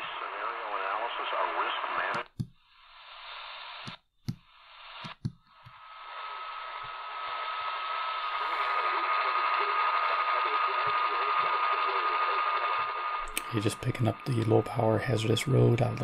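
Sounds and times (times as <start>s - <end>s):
radio tuning clicks: 0.0s - 2.6s, 3.6s - 14.8s
radio static hiss: 0.0s - 16.0s.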